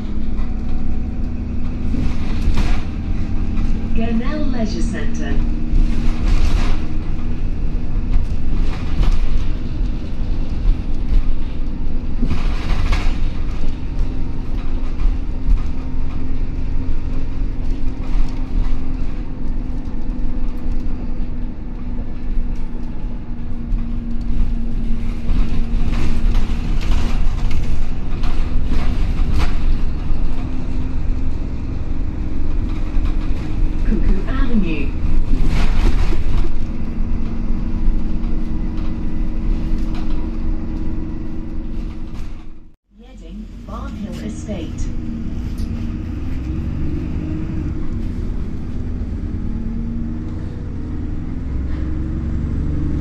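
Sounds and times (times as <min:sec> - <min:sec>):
bus engine drone: 0:00.0 - 0:53.0
road rumble: 0:00.0 - 0:53.0.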